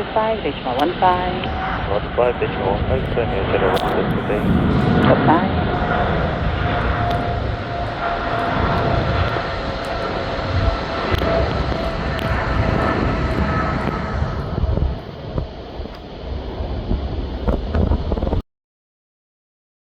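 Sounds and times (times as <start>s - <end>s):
jet engines rumbling: 0.0s - 18.4s.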